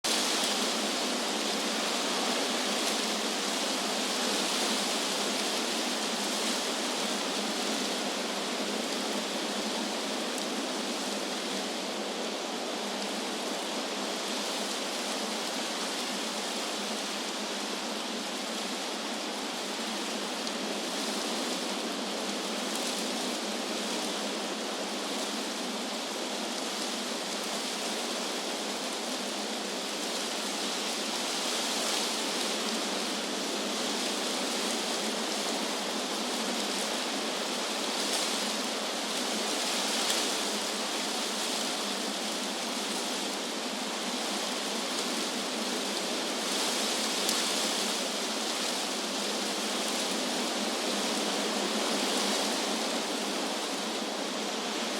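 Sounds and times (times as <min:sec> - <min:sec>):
wind through tree leaves: 0:00.0 - 0:54.9.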